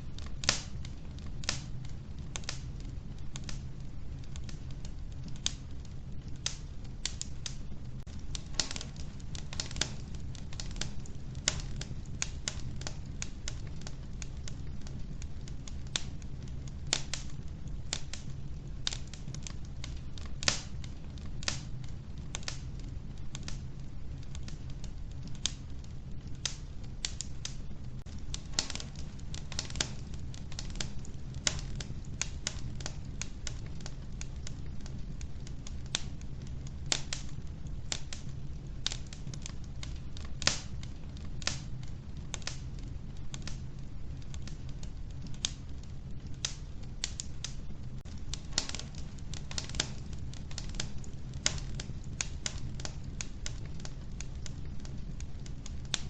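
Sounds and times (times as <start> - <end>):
logs crackling in a stove: 0.0 - 56.0
low fire rumble: 0.0 - 56.0.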